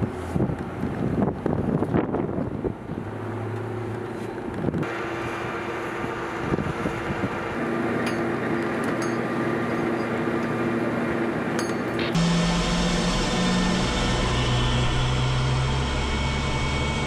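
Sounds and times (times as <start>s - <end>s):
machinery hum and whine: 2.4s - 17.0s.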